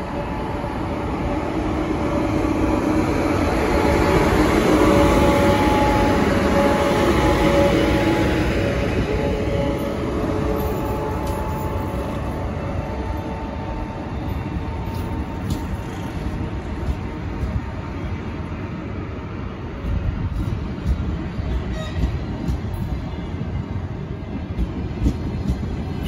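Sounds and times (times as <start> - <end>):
electric locomotive whine: 0.0 - 26.0
train wheels rumbling on rails: 0.0 - 26.0.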